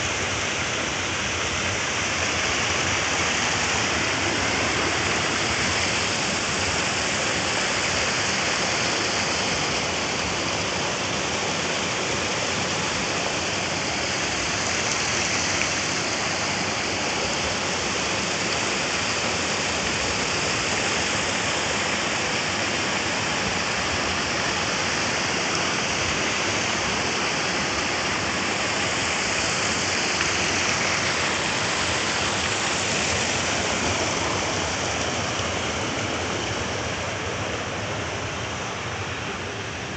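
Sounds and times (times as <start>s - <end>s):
water rushing over weirs: 0.0s - 39.9s.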